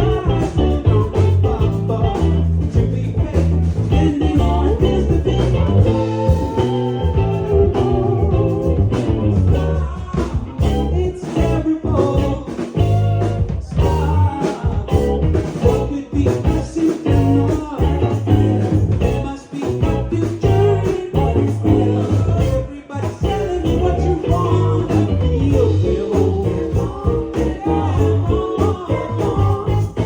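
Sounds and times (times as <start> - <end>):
bass guitar: 0.0 - 30.0
electric guitar: 0.0 - 30.0
live band playing: 0.0 - 30.0.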